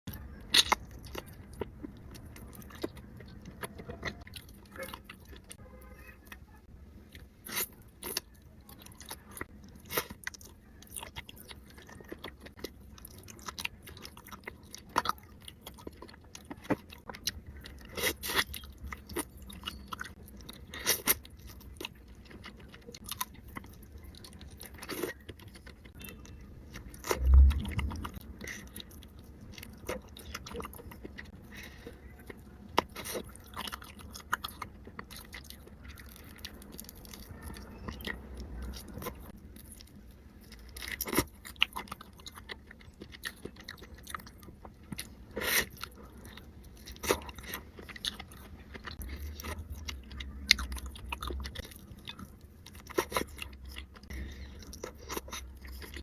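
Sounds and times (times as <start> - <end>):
chewing and biting seafood: 0.1 - 5.6, 7.1 - 56.0.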